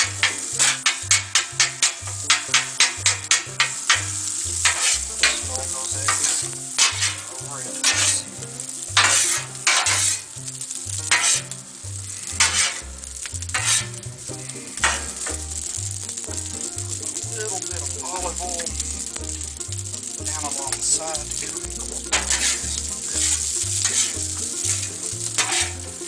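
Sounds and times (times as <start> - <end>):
food sizzling in butter: 0.0 - 26.0
spatula scraping on griddle: 0.0 - 26.0.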